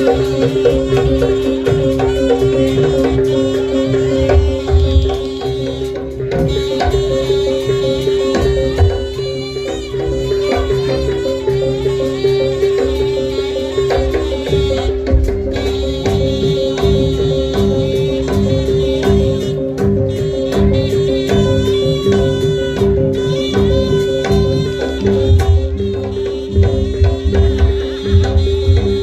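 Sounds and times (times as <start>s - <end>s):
hand drums quick rhythm: 0.0s - 29.0s
tuned percussion ensemble: 0.0s - 29.0s
wavering melody line: 0.0s - 29.0s.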